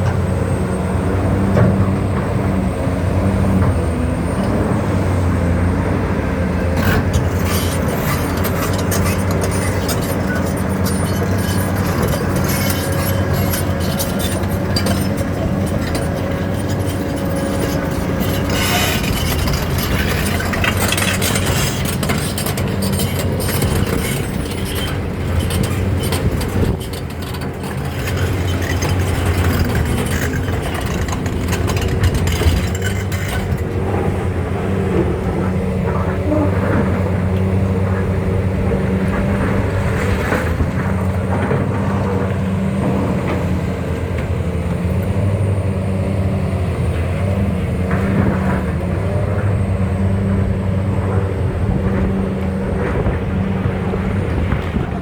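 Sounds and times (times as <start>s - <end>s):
excavator diesel engine drone: 0.0s - 55.0s
harsh rattling and scraping: 6.6s - 45.3s, 47.2s - 55.0s.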